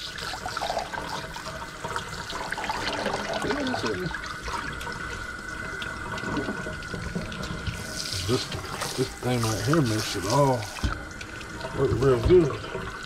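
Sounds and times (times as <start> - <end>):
water spraying into sink: 0.0 - 13.0.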